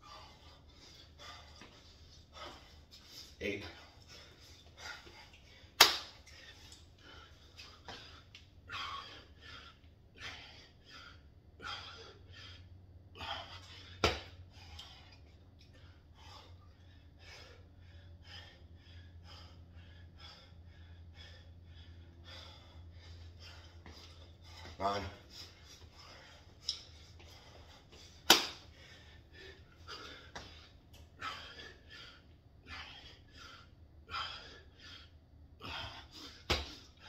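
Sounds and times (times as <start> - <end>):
low steady hum: 0.0 - 37.0
man breathing heavily: 0.0 - 37.0.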